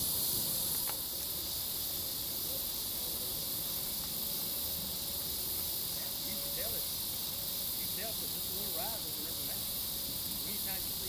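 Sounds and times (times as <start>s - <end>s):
insects buzzing shrilly: 0.0s - 11.0s.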